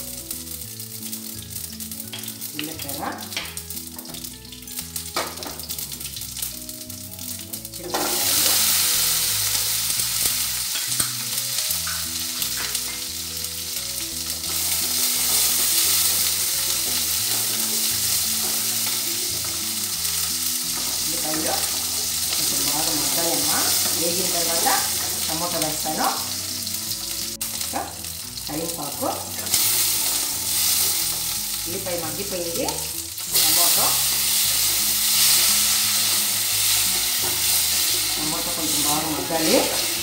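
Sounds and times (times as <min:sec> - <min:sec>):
spices sizzling in hot oil: 0:00.0 - 0:40.0.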